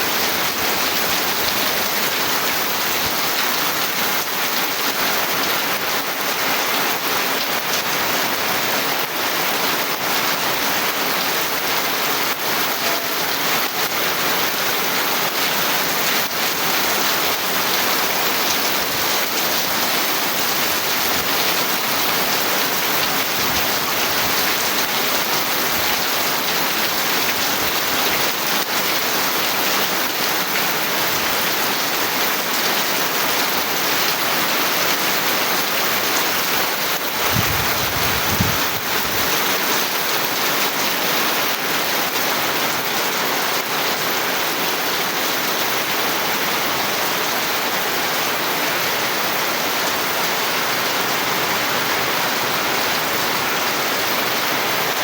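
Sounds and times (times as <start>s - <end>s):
heavy rain patter: 0.0s - 55.0s.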